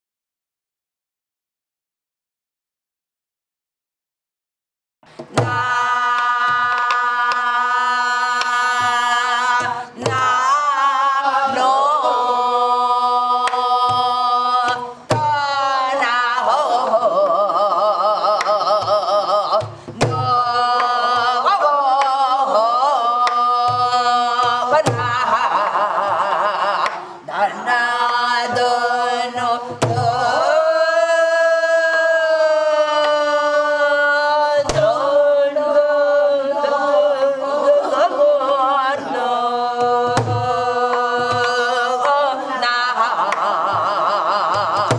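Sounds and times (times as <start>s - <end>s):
woman singing long held notes: 5.2s - 44.9s.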